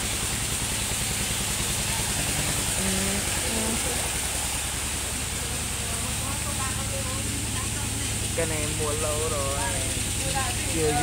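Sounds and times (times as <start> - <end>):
constant hiss: 0.0 - 11.0
engine running steadily: 0.0 - 11.0.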